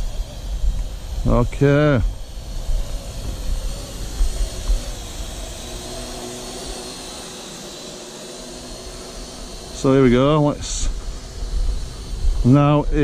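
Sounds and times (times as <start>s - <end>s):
wind buffeting microphone: 0.0s - 7.2s, 8.8s - 13.0s
faint hum: 0.0s - 13.0s
steady hiss: 0.0s - 13.0s.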